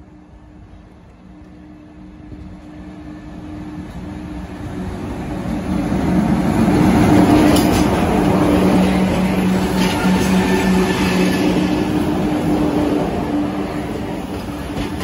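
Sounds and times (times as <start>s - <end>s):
electric locomotive hum: 0.0s - 15.0s
rumble of wheels on rail: 0.0s - 15.0s.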